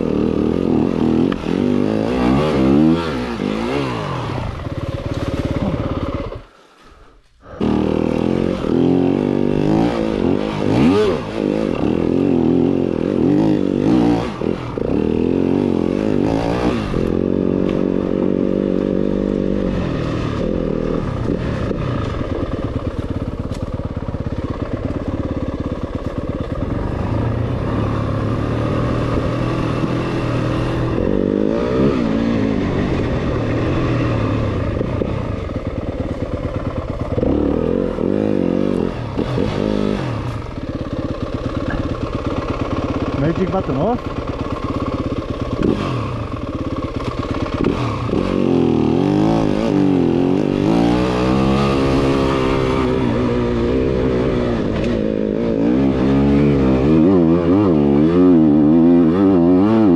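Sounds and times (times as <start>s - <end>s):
dirt bike engine revving: 0.0s - 6.5s, 7.4s - 59.9s.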